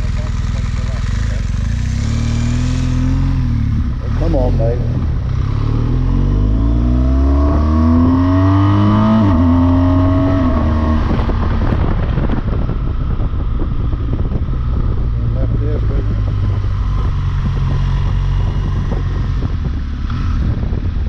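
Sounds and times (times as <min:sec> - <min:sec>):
motorcycle engine accelerating: 0:00.0 - 0:21.0
wind buffeting microphone: 0:02.4 - 0:21.0.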